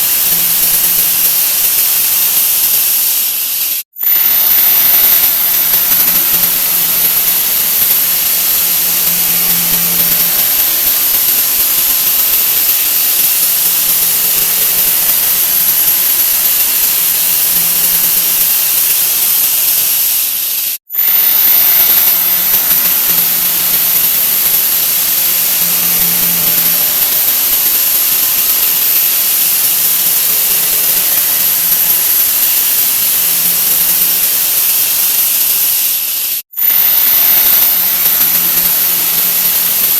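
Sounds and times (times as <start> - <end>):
sped-up sound effect hiss and whine: 0.0 - 39.9.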